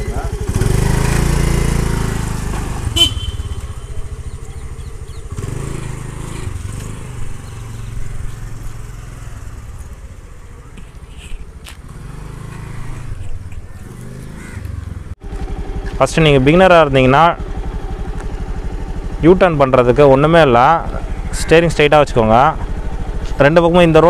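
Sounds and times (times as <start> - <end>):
scooter engine humming: 0.0 - 24.0.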